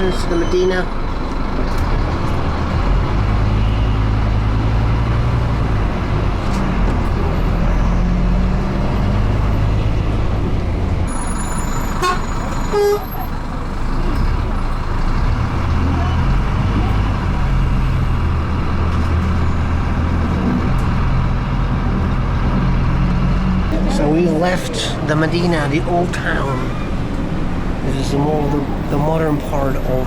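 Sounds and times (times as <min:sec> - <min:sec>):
bus engine running: 0:00.0 - 0:30.0
road noise inside bus: 0:00.0 - 0:30.0.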